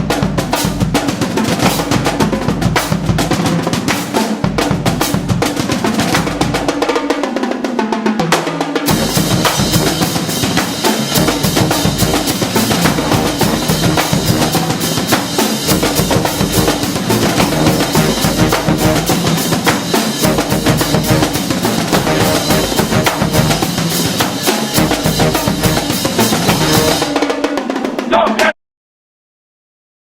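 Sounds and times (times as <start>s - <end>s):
drum-heavy music: 0.0s - 28.5s.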